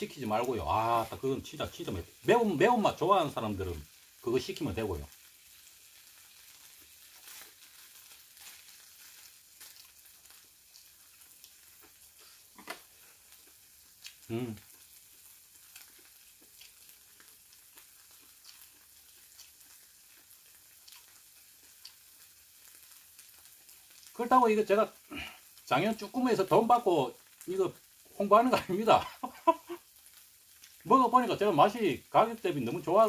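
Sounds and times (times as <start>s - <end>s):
octopus sizzling in frying pan: 0.0s - 33.0s.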